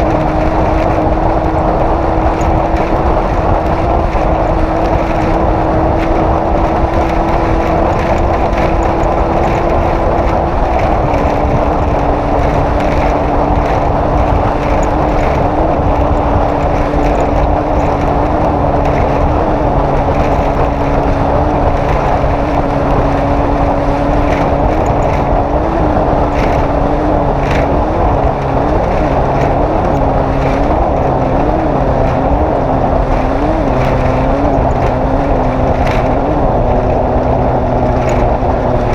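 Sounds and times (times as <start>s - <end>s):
race vehicle engine running hard: 0.0s - 38.9s
wind and terrain noise: 0.0s - 38.9s.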